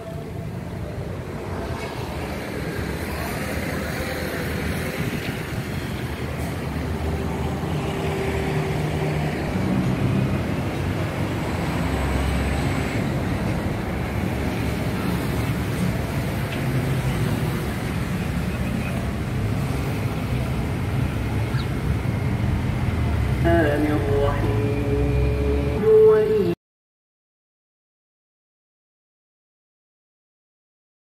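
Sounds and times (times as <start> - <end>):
low rumble of road traffic: 0.0 - 26.6.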